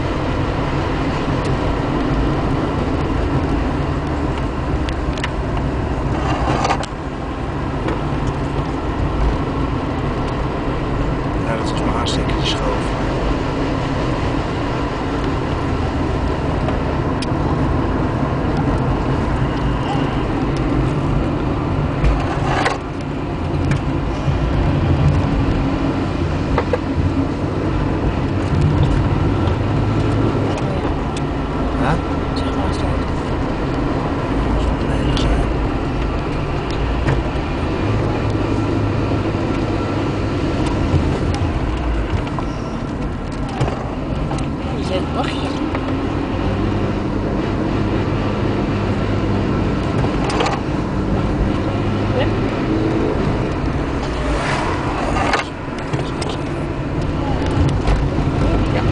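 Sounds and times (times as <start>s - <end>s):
car engine: 0.0s - 58.9s
road noise: 0.0s - 58.9s.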